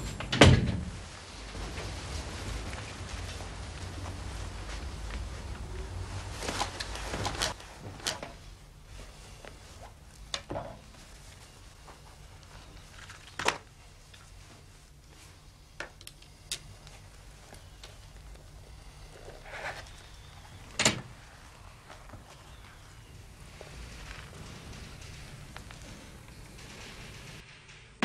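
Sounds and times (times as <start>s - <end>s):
papers and folders handled: 1.0s - 27.4s
small clicks and rustles: 1.3s - 28.0s.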